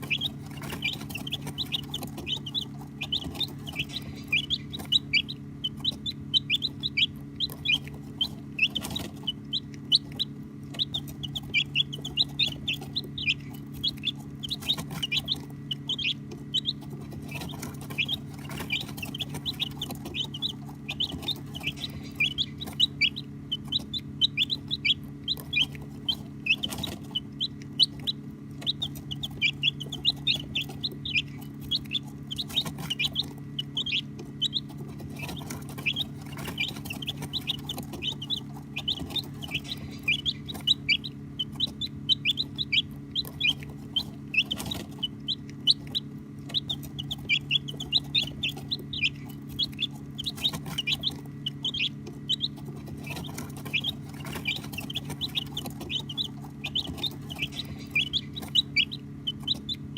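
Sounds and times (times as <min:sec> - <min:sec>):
baby chicks peeping: 0:00.0 - 0:59.9
steady low hum: 0:00.0 - 0:59.9.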